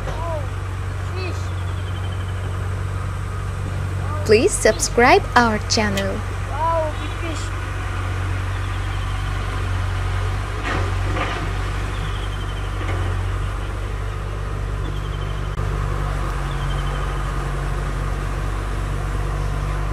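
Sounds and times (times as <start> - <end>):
engine humming: 0.0 - 19.9.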